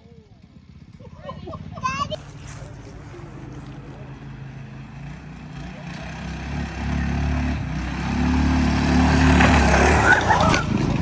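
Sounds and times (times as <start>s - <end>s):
minibike engine running: 0.0s - 11.0s.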